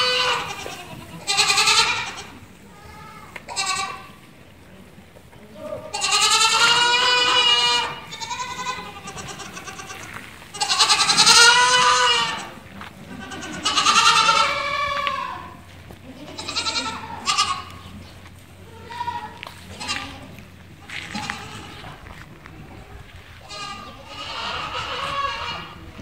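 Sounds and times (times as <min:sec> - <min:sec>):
fainter goat bleats: 0:00.0 - 0:04.2, 0:05.6 - 0:18.0, 0:18.6 - 0:26.0
goat bleating loudly: 0:00.0 - 0:04.2, 0:05.6 - 0:18.0, 0:18.6 - 0:26.0.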